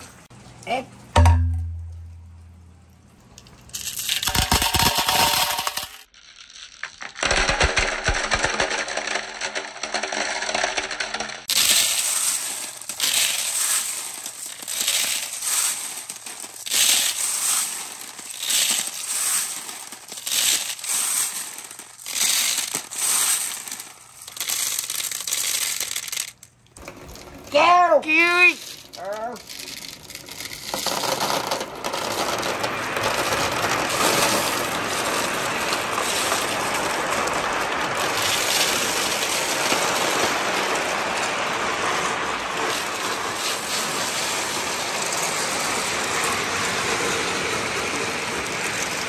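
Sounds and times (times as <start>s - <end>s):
glass marbles clattering: 3.7s - 48.9s.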